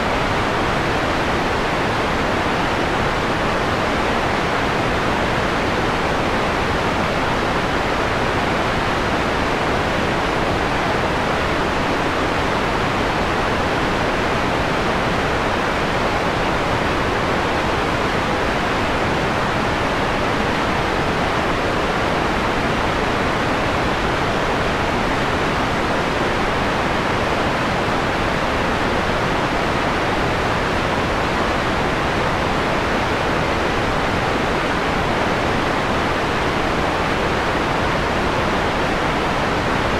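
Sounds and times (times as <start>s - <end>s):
filtered white noise hiss: 0.0s - 39.9s.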